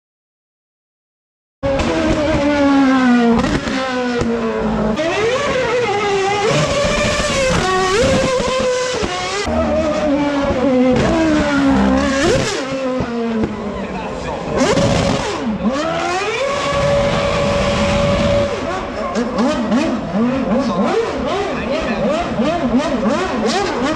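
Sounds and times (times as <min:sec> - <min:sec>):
racing car engine revving: 0:01.6 - 0:23.9.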